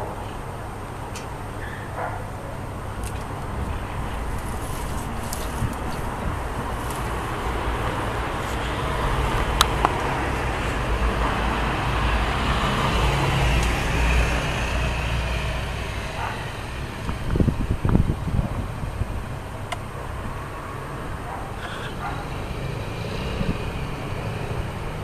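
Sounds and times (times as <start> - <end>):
road traffic rumble: 0.0 - 25.0
vehicle passing: 2.7 - 25.0.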